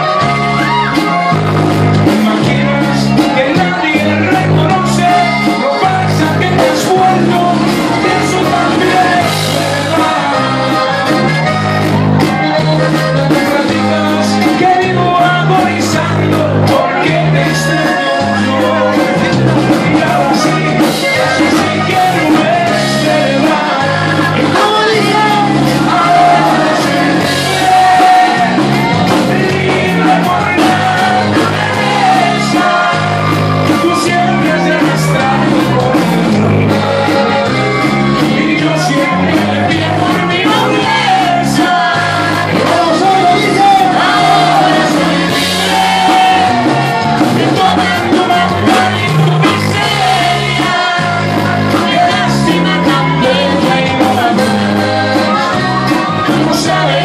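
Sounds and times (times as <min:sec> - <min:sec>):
accordion: 0:00.0 - 0:57.0
bass guitar: 0:00.0 - 0:57.0
drums: 0:00.0 - 0:57.0
guitar: 0:00.0 - 0:57.0
man singing: 0:00.0 - 0:57.0.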